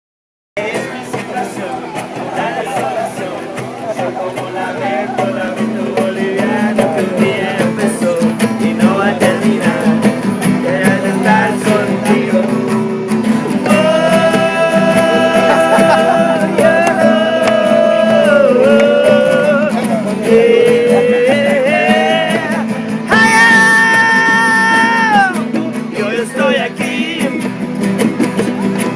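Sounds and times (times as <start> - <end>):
people singing together: 0.6 - 28.5
strummed guitar: 0.6 - 28.9.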